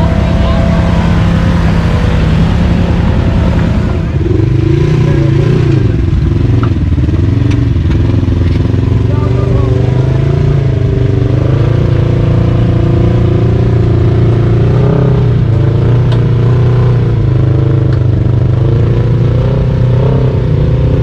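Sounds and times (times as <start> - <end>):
atv engine running while riding: 0.0 - 21.0.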